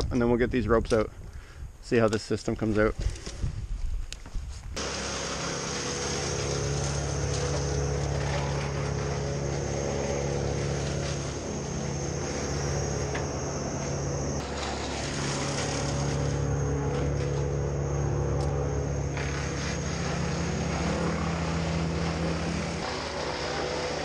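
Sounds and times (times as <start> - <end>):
engine running steadily: 4.8 - 24.0.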